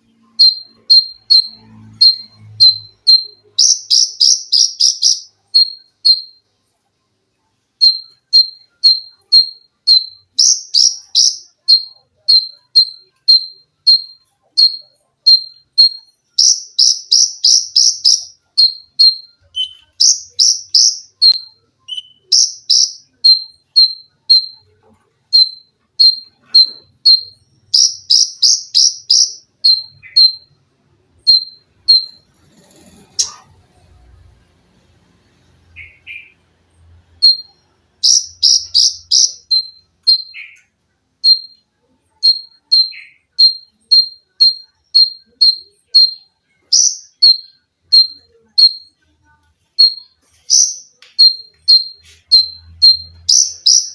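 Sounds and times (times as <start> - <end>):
bird singing high sharp notes: 0.3 - 6.4, 7.8 - 30.6, 31.2 - 32.3, 35.7 - 36.4, 37.2 - 41.6, 42.2 - 49.0, 49.8 - 53.9.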